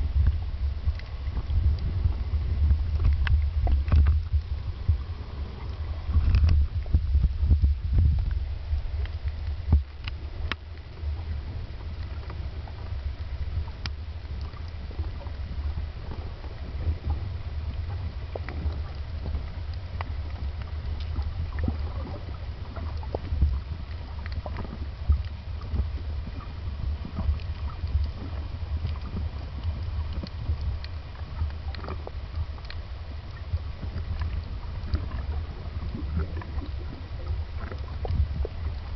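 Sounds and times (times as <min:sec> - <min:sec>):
faint underwater clicks: 0:00.0 - 0:38.9
underwater low rumble: 0:00.0 - 0:38.9.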